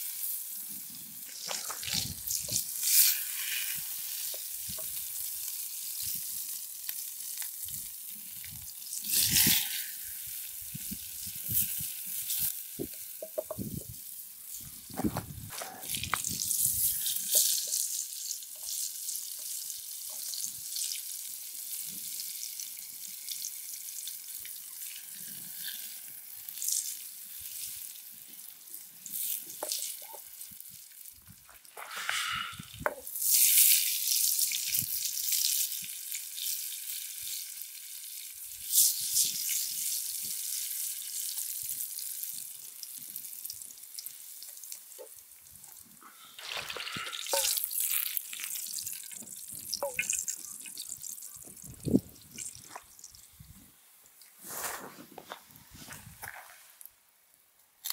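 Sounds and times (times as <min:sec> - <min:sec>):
oil sizzling in frying pan: 0:00.0 - 0:15.0, 0:15.8 - 0:31.1, 0:31.8 - 0:53.1
campfire crackling: 0:00.0 - 0:57.9.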